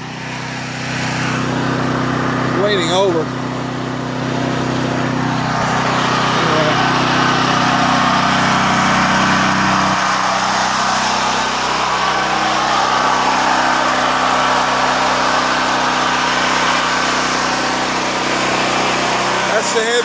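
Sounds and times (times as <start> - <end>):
portable generator engine running: 0.0 - 20.0.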